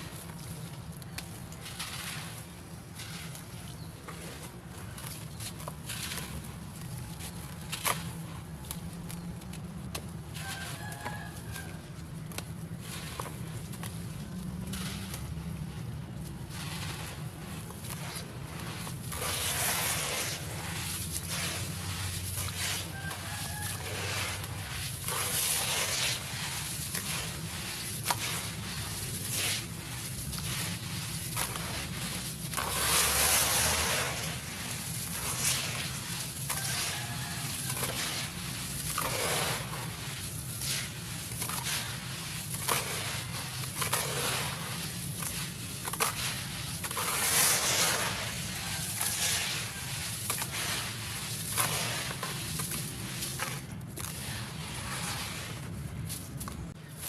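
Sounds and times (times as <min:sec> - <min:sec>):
concrete crunching and snapping: 0:00.0 - 0:57.0.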